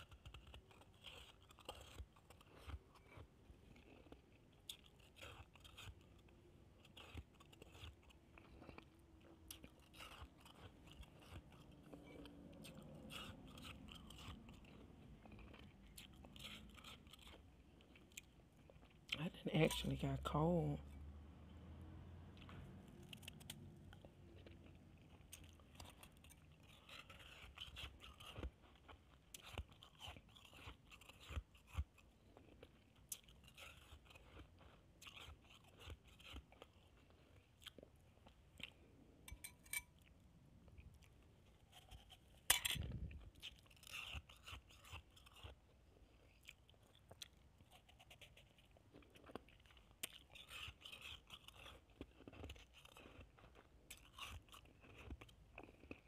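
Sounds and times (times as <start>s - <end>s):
chewing crunchy ice: 0.0s - 21.2s, 22.3s - 56.0s.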